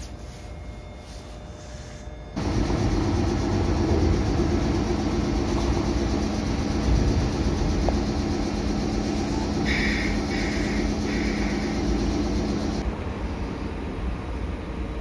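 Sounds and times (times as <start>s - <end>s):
electric train rumbling on track: 1.8s - 15.0s.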